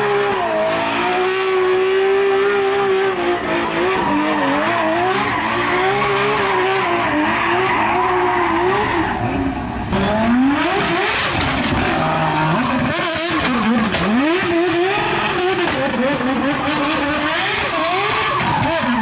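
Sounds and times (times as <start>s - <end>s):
racing car engine revving: 0.0s - 19.0s.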